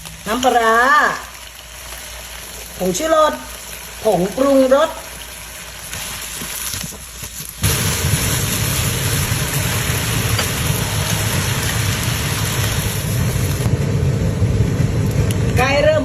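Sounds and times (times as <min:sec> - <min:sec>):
pot boiling with hissing bubbles: 0:00.0 - 0:16.0.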